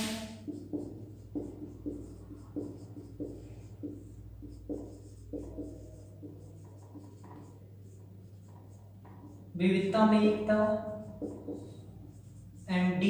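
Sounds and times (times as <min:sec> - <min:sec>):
faint electrical hum: 0:00.0 - 0:13.0
pen scratching on paper: 0:00.4 - 0:13.0.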